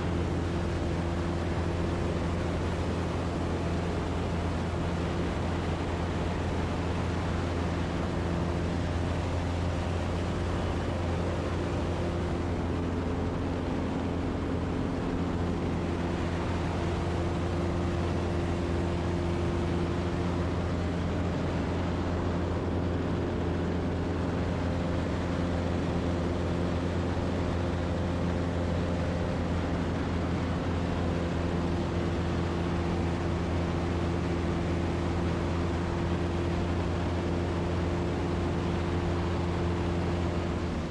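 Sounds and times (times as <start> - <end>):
aircraft engine and propeller droning: 0.0 - 40.9.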